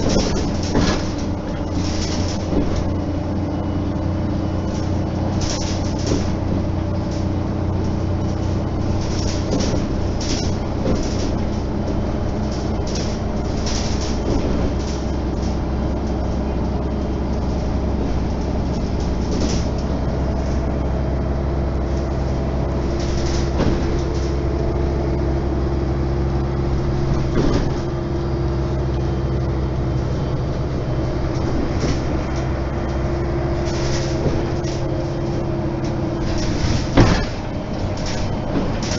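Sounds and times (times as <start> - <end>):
bus engine drone: 0.0 - 38.9
interior fittings rattling: 0.0 - 38.9.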